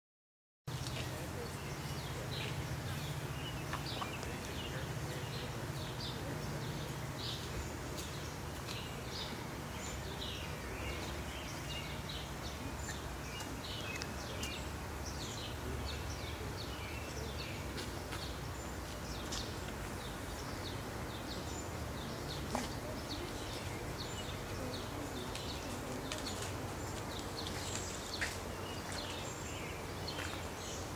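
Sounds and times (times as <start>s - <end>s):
small birds chirping: 0.7s - 30.9s.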